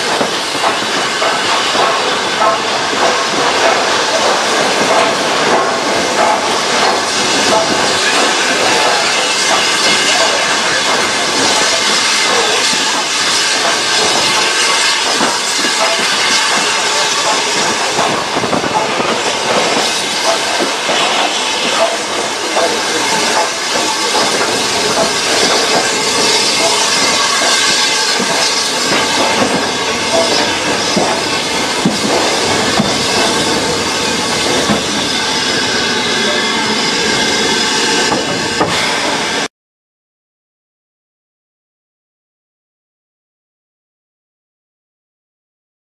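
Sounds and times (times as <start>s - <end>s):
steam hissing: 0.0s - 39.5s
wheels clattering on track: 0.0s - 39.5s.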